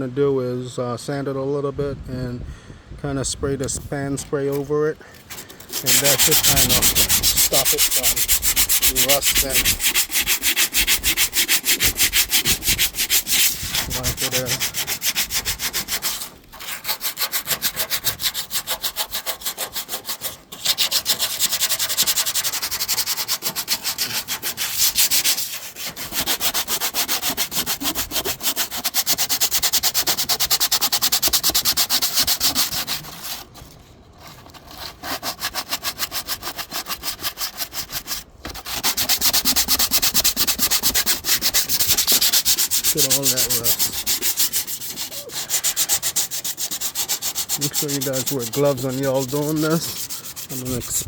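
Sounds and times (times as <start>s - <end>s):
hand sanding rusty sheet metal: 4.3s - 51.0s.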